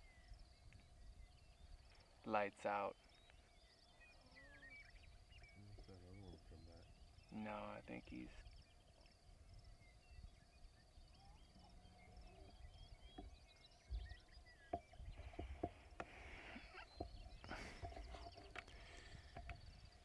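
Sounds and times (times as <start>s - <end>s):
faint low wind rumble: 0.0s - 2.3s, 2.9s - 20.0s
faint chirps: 0.0s - 20.0s.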